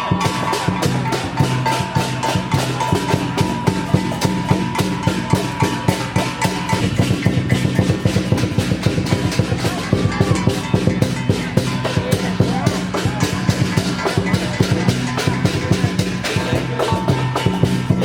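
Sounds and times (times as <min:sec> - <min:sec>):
percussion music: 0:00.0 - 0:18.0.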